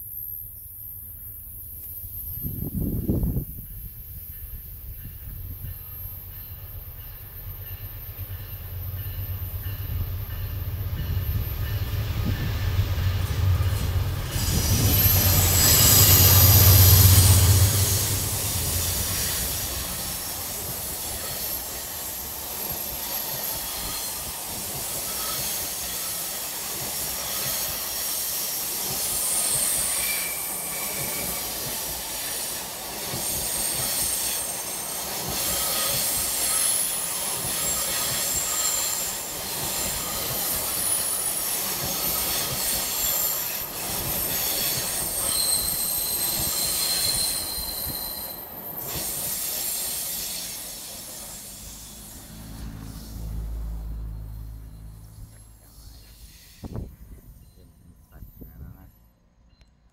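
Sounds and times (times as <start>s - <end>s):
diesel locomotive engine drone: 0.0s - 59.9s
train wheels squealing on rails: 0.0s - 59.9s.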